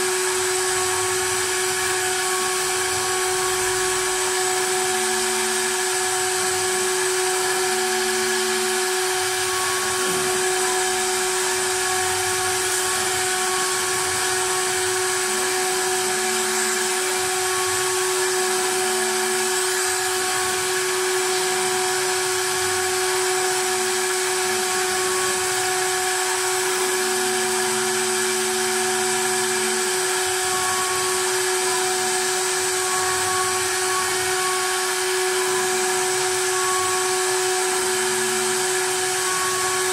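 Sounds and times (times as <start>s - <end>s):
carving spindle whining: 0.0s - 39.9s.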